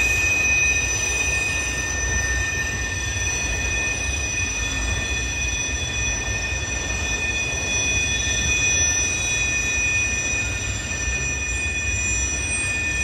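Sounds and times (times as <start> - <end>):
freight train rumble: 0.0 - 13.0
train wheels squealing on rails: 0.0 - 13.0.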